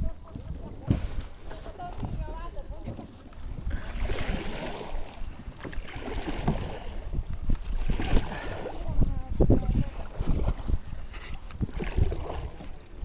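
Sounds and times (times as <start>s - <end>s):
water splashing around kayak: 0.0s - 13.0s
wind on microphone: 0.0s - 13.0s.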